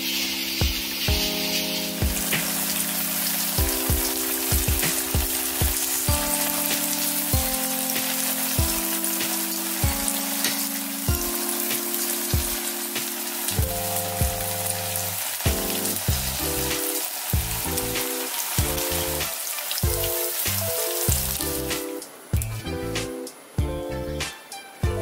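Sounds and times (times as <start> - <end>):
music with bouncy beat: 0.0 - 25.0
tofu deep-frying in hot oil: 1.2 - 21.8.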